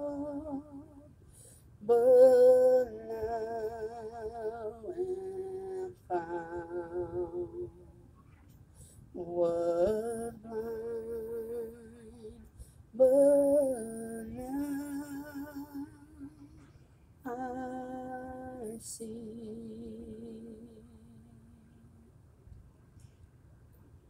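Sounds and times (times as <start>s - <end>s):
person singing unaccompanied: 0.0s - 22.0s.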